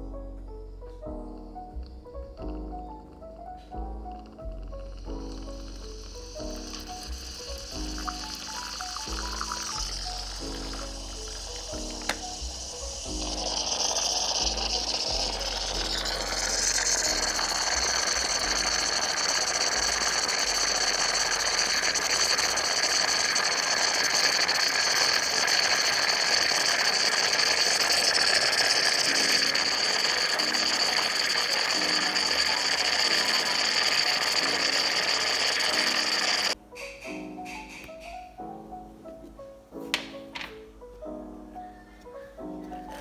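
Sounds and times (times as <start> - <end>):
coffee maker hissing steam: 2.4 - 38.3
high whistle in steam: 3.8 - 38.3.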